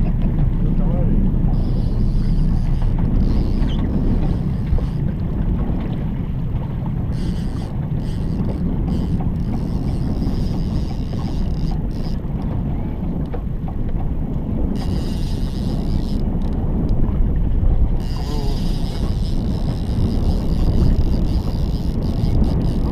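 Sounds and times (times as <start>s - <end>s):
outboard motor running: 0.0s - 22.9s
wind buffeting microphone: 0.0s - 22.9s.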